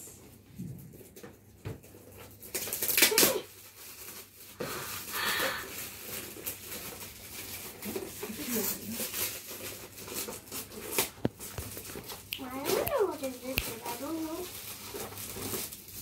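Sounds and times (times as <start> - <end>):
gift wrap crinkling and tearing: 1.8 - 16.0.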